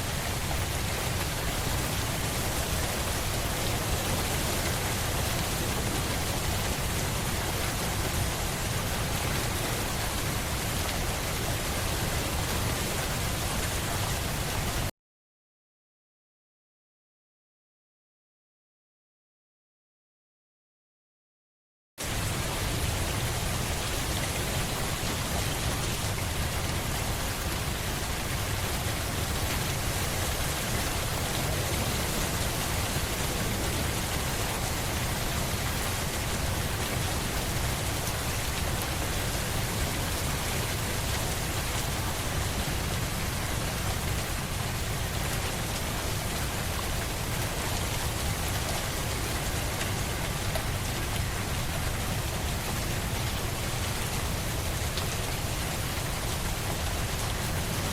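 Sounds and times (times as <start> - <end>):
heavy rain: 0.0 - 14.9, 22.0 - 57.9.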